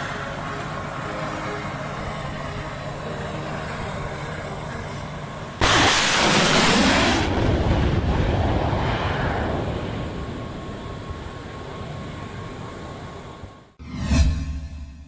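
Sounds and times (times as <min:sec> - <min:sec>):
rocket motor roar: 0:00.0 - 0:13.4
steady background rumble: 0:00.0 - 0:15.0.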